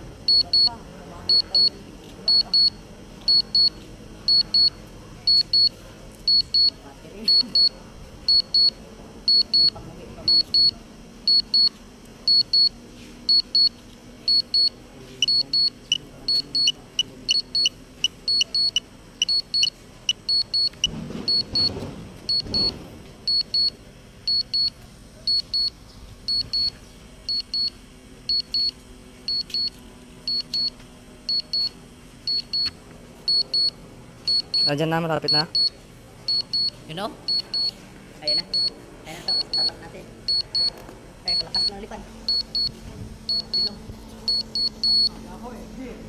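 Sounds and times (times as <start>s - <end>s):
high double warning beeps: 0.2s - 45.2s.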